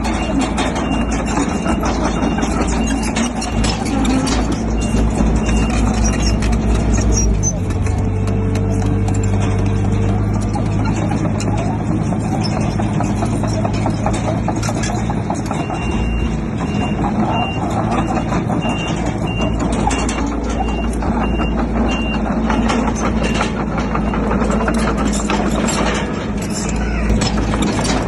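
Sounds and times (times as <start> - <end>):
heavy diesel engine drone: 0.0 - 28.0
metallic clanking and knocking: 0.0 - 28.0.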